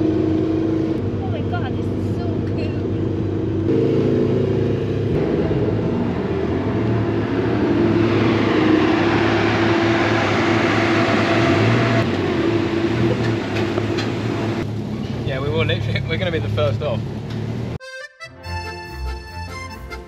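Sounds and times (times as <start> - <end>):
car engine droning: 0.0 - 17.8.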